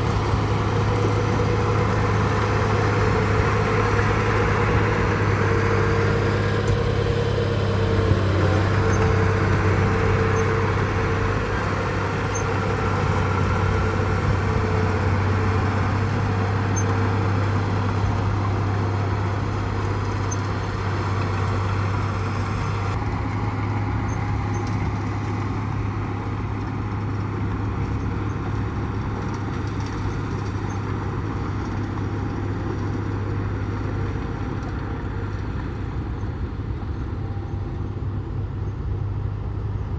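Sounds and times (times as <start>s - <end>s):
diesel truck engines droning: 0.0s - 39.9s.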